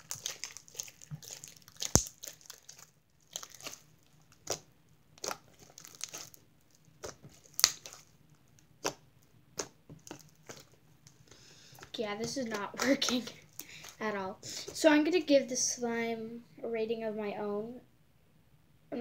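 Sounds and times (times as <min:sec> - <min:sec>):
slime crackling wetly: 0:00.0 - 0:15.3.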